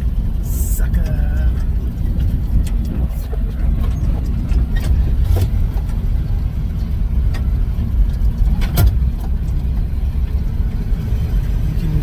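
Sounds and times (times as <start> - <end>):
pickup engine rumbling: 0.0 - 12.0.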